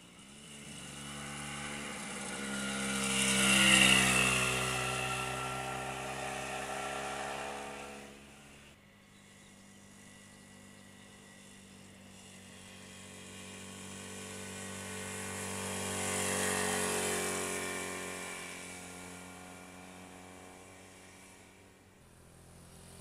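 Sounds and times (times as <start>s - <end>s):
motorcycle engine passing by: 0.0s - 23.0s.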